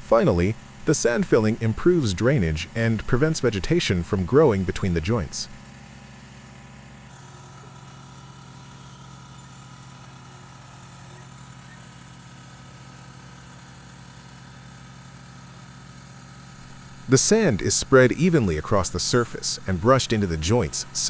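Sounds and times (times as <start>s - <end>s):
construction machinery engine idling: 0.0s - 21.0s.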